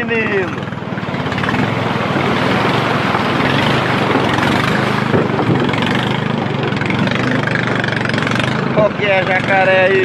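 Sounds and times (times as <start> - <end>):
motor engine humming: 0.0 - 10.0.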